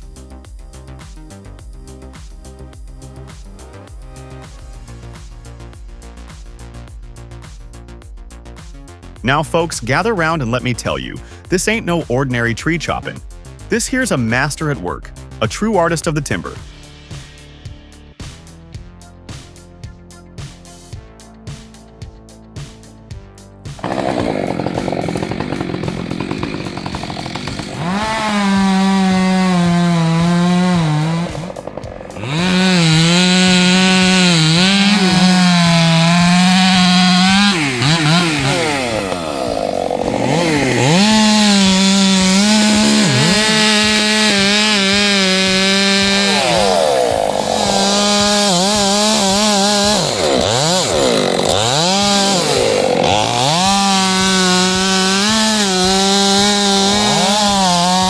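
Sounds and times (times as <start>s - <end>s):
chainsaw cutting wood: 0.0s - 6.8s, 8.6s - 14.7s, 23.7s - 58.0s.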